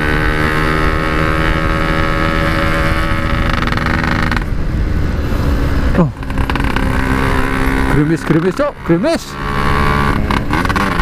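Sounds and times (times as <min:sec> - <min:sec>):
two-stroke motorcycle engine running: 0:00.0 - 0:04.8, 0:05.8 - 0:11.0.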